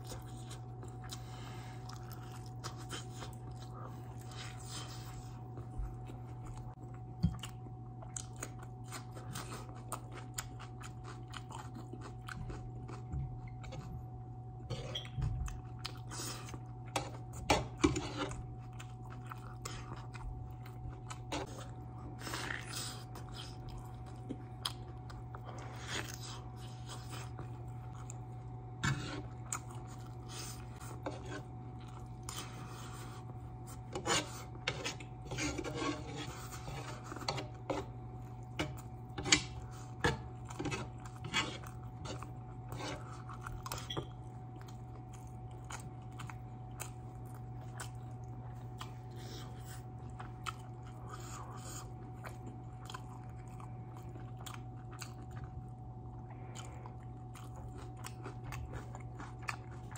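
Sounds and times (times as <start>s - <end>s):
chewing: 0.0s - 59.9s
steady low hum: 0.0s - 59.9s.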